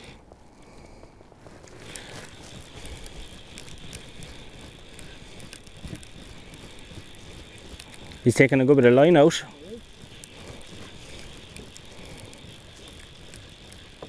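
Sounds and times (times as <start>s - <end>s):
fishing reel drag clicking: 1.6s - 14.0s.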